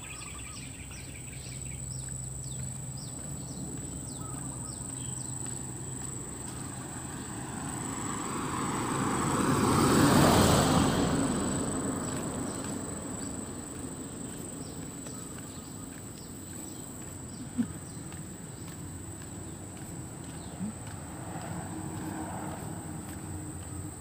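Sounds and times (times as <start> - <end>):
car passing: 0.0 - 24.0
footsteps on asphalt: 0.0 - 24.0.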